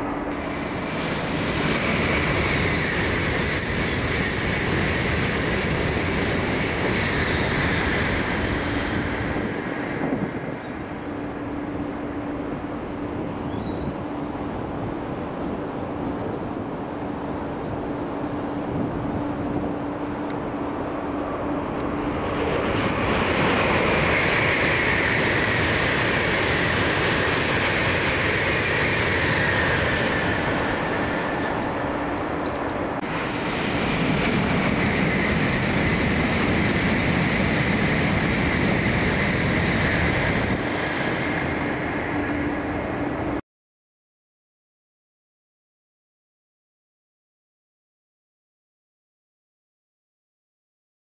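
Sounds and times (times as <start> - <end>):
high-speed train passing: 0.0 - 43.4.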